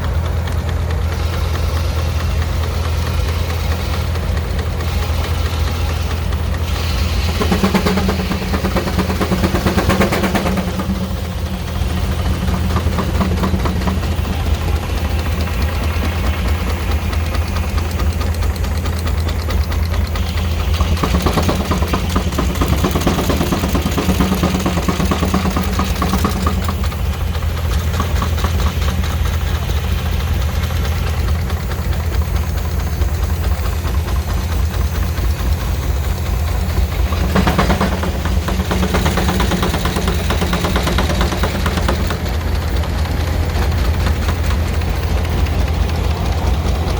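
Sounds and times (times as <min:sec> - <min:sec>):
engine driving sawmill: 0:00.0 - 0:46.9.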